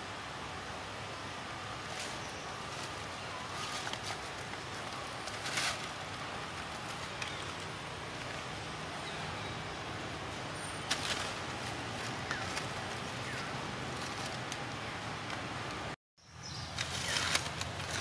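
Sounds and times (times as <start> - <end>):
steady outdoor hiss: 0.0 - 18.0
dry leaves rustling and crackling: 1.6 - 9.6, 10.2 - 15.5, 16.5 - 18.0.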